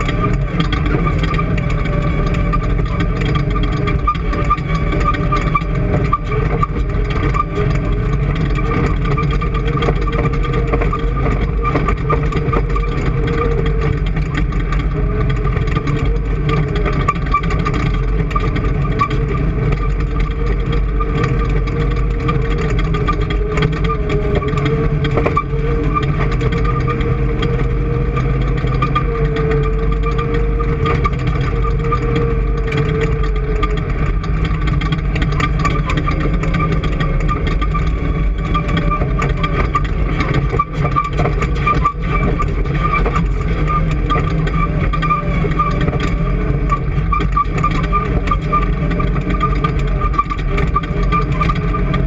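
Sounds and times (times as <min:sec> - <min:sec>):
engine running steadily: 0:00.0 - 0:52.0
steady whine: 0:00.0 - 0:52.0.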